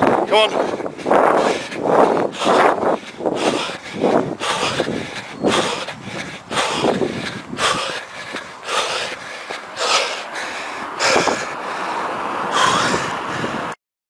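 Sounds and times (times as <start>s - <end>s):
man panting: 0.0s - 13.8s.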